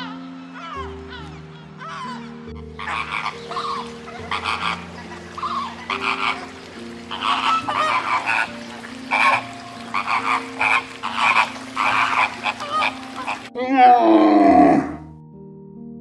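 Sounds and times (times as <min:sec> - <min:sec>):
flamingos honking and gabbling: 0:00.0 - 0:15.0
low background music: 0:00.0 - 0:16.0.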